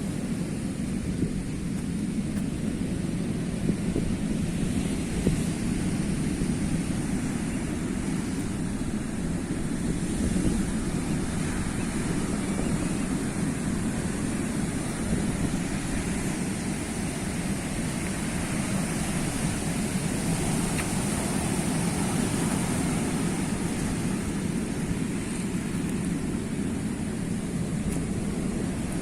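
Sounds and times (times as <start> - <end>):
sea waves washing onto shore: 0.0 - 29.0
wind rumbling on microphone: 0.0 - 29.0.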